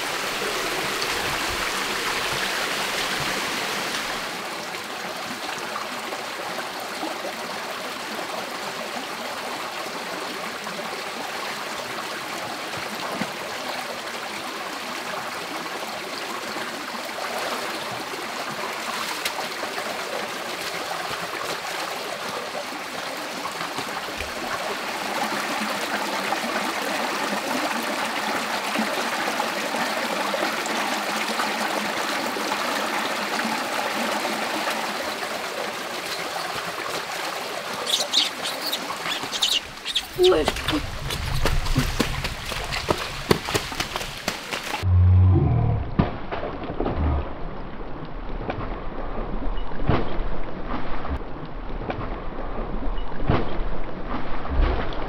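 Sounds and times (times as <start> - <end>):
stream running over stones: 0.0 - 44.9.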